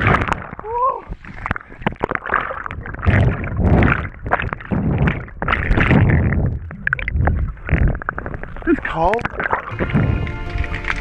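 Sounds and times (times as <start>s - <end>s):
water sloshing and gurgling: 0.0s - 11.0s.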